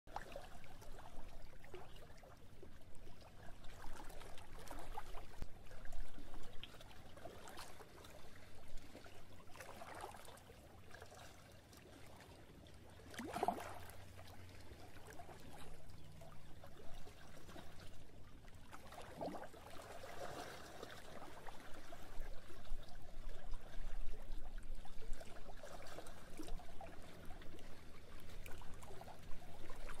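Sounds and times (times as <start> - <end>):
water splashes: 0.1 - 30.0
waves lapping against a dock: 0.1 - 30.0.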